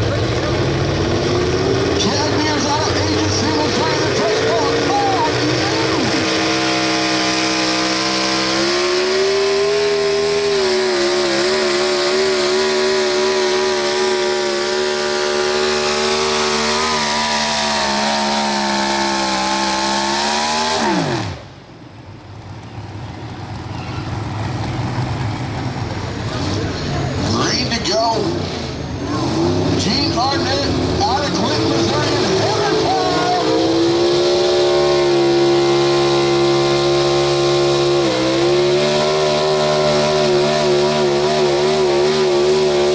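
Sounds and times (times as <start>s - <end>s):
truck engine at high revs: 0.0s - 42.9s.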